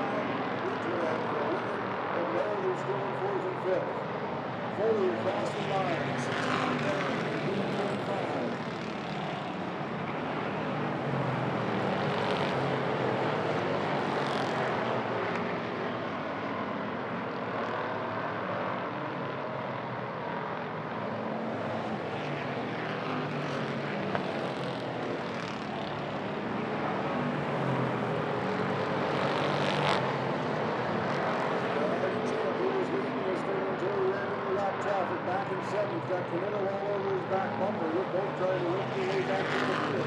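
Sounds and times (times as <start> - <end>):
race car engines roaring: 0.0 - 40.0.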